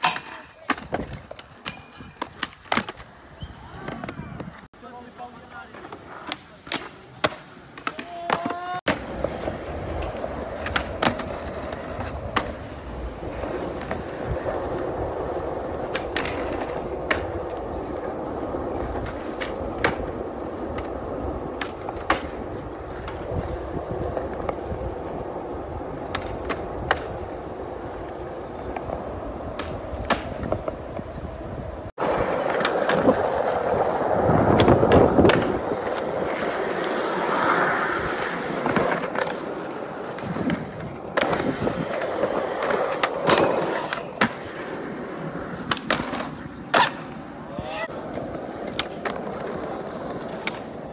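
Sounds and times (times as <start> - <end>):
skateboard pops and clacks: 0.0 - 3.1, 5.6 - 12.8, 15.6 - 18.1, 18.7 - 24.8, 25.9 - 27.3, 27.9 - 31.1, 32.0 - 50.9
skateboard wheels rolling on concrete: 0.0 - 50.9.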